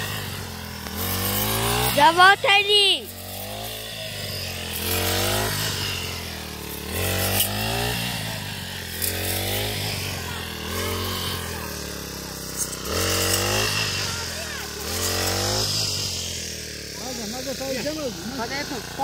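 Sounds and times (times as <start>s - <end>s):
brush cutter engine revving: 0.0s - 19.0s.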